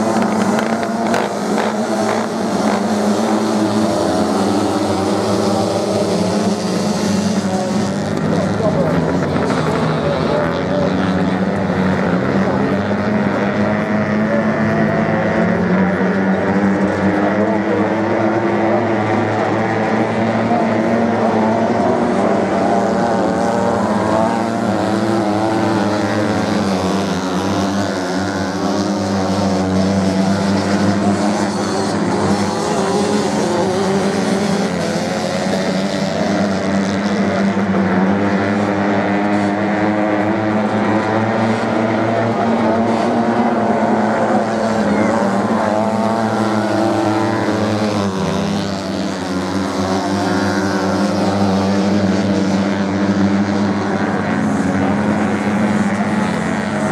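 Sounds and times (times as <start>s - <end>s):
dirt bike engines racing: 0.0s - 56.9s.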